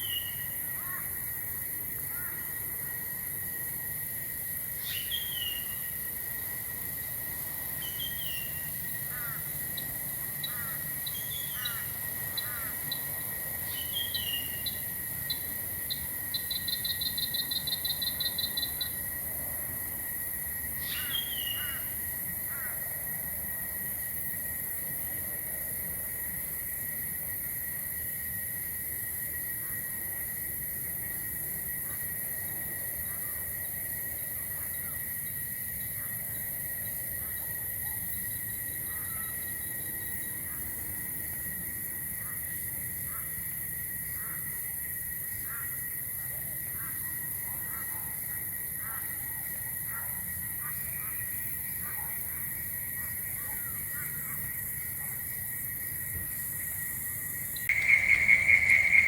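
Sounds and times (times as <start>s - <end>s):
insect high-pitched trill: 0.0s - 23.1s, 32.7s - 59.0s
short repeated insect calls: 0.0s - 59.0s.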